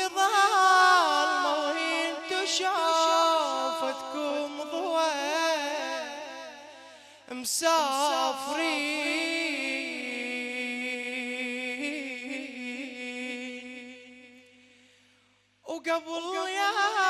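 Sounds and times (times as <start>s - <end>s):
man singing unaccompanied lament: 0.0s - 14.6s, 15.7s - 17.0s.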